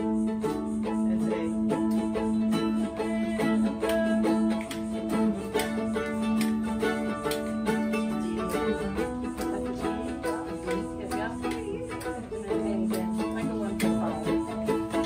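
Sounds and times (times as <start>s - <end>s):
mandolin plucked and strummed: 0.0s - 15.0s
ukulele being tuned: 0.0s - 15.0s.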